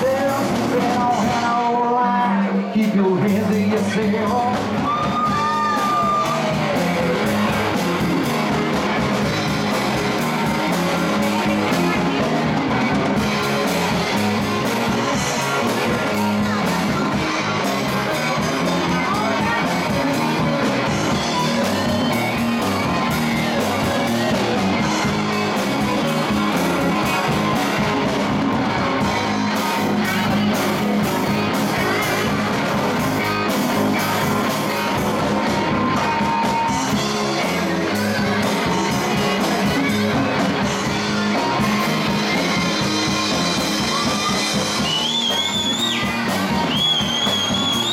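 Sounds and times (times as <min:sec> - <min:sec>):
drum kit: 0:00.0 - 0:02.0, 0:02.8 - 0:47.9
electric bass: 0:00.0 - 0:47.9
electric guitars: 0:00.0 - 0:47.9.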